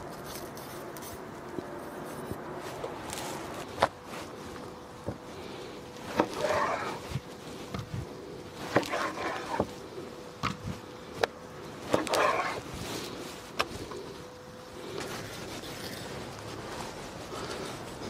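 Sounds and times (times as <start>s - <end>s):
wet scraping and rustling: 0.0s - 18.0s.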